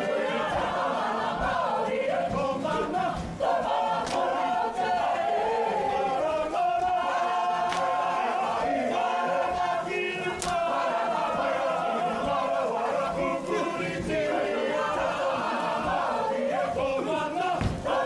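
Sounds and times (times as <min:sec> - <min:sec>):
group chanting in unison: 0:00.0 - 0:18.0.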